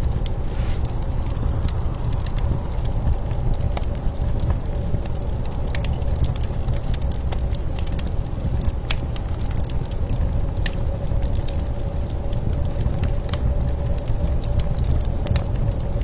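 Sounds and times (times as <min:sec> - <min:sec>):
low rumble of blizzard wind: 0:00.0 - 0:16.0
wood fire crackling and popping: 0:00.0 - 0:16.0.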